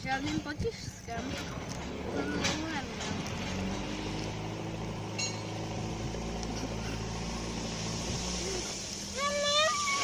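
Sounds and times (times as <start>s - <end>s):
diesel engine droning: 1.0s - 10.0s.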